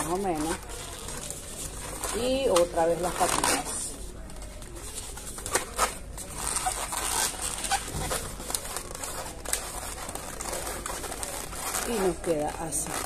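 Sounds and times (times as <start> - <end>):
balloons squeaking and rubbing: 0.0 - 13.0.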